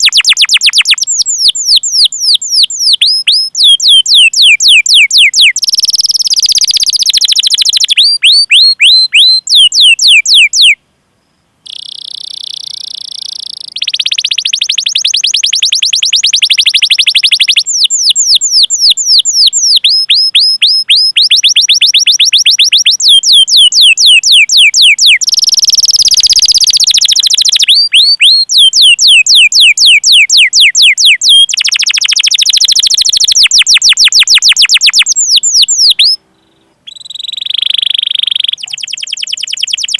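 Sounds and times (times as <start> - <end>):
canary singing: 0.0 - 10.8, 11.6 - 39.9.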